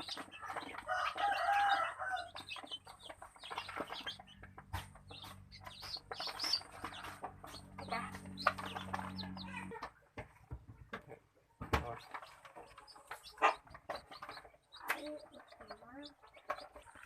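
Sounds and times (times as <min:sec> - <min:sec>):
chickens clucking: 0:00.0 - 0:10.1, 0:10.8 - 0:17.0.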